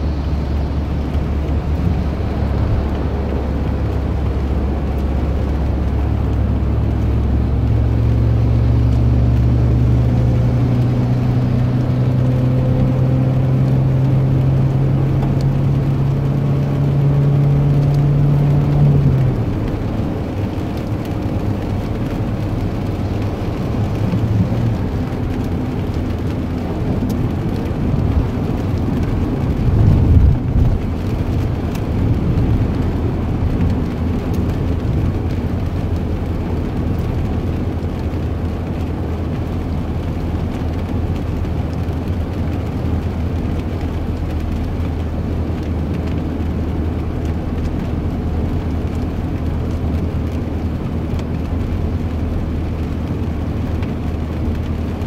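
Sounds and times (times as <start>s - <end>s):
low engine hum: 0.0s - 55.0s.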